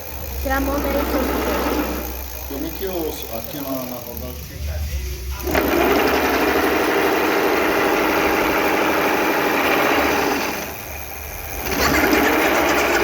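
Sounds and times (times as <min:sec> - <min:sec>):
electric bicycle motor running: 0:00.0 - 0:13.0.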